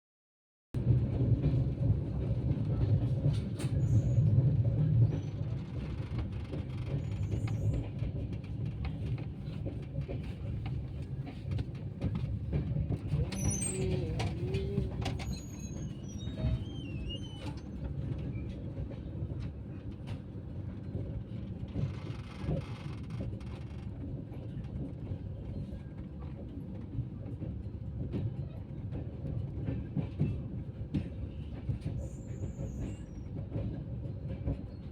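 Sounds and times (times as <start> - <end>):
train rumbling: 0.8 - 34.9.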